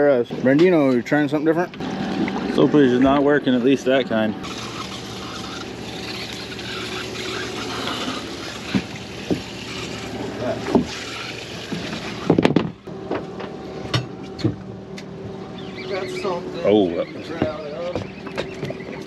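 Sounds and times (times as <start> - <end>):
water around boat: 0.0 - 19.0
wind: 0.0 - 19.0
low hum: 1.2 - 19.0.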